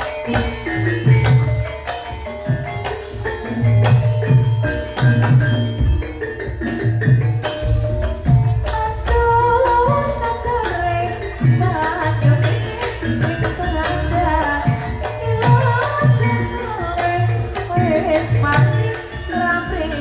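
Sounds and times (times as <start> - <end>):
hand drum strokes: 0.0 - 18.7
wavering melodic line: 0.0 - 19.9
ringing metallophone notes: 0.0 - 20.0.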